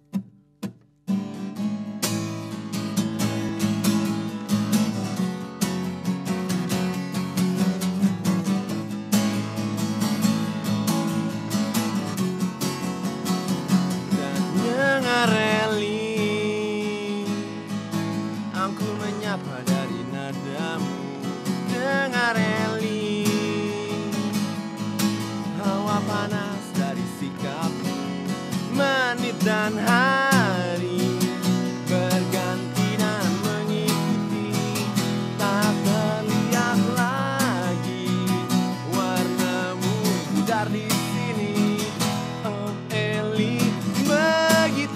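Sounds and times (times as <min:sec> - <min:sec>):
acoustic guitars strumming: 0:00.0 - 0:44.9
picked guitar melody: 0:00.0 - 0:44.9.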